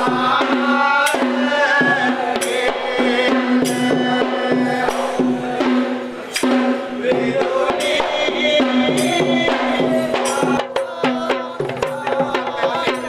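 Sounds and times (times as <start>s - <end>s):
drum and percussion strokes: 0.0s - 13.0s.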